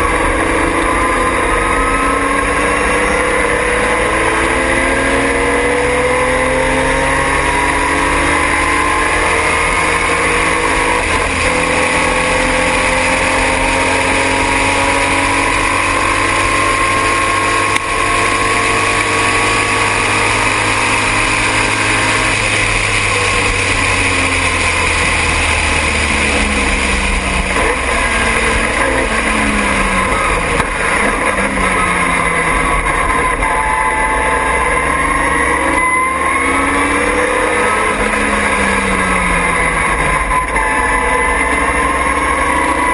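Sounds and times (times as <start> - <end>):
race car engine revving: 0.0 - 42.9
wind and road noise: 0.0 - 42.9.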